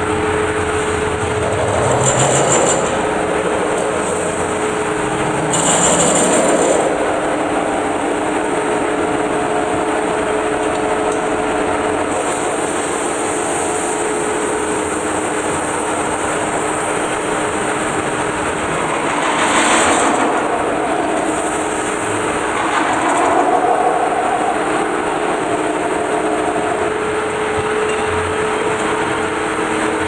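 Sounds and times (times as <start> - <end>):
loud machine drone: 0.0 - 30.0.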